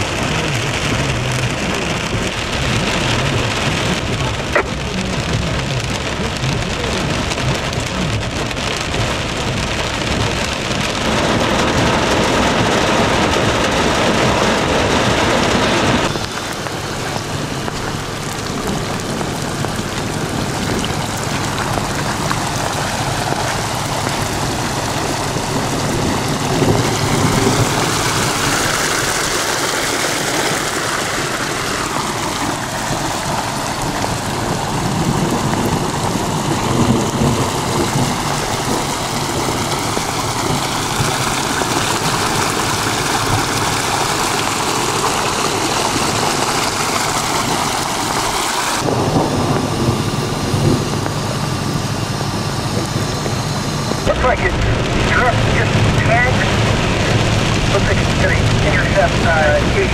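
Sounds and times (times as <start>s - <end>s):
heavy rain falling: 0.0s - 59.9s
runoff water running: 0.0s - 59.9s.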